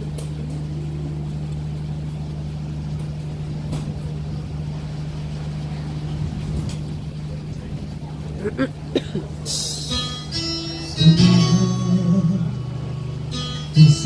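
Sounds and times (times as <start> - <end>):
ship machinery humming: 0.0 - 14.0.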